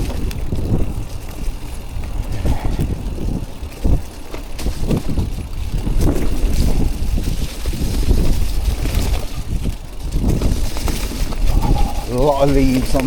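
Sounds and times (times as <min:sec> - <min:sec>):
bike knocks and rattles: 0:00.0 - 0:13.0
bike tyres rumbling over ground: 0:00.0 - 0:13.0
wind buffeting microphone: 0:00.0 - 0:13.0.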